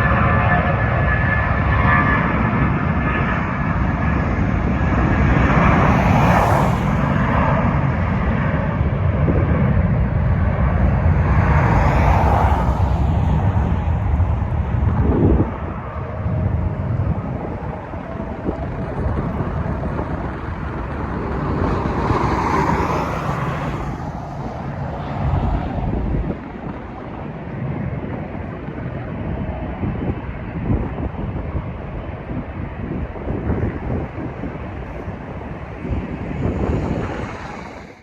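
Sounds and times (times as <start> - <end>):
jet engine roar: 0.0 - 38.0
wind buffeting microphone: 0.0 - 38.0.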